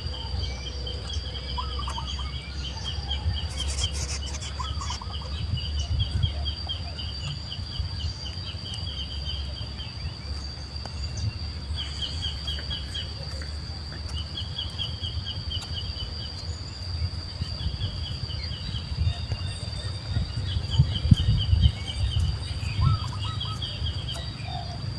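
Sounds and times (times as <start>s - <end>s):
high-pitched insect drone: 0.0s - 24.9s
rapid chirping: 0.0s - 24.9s.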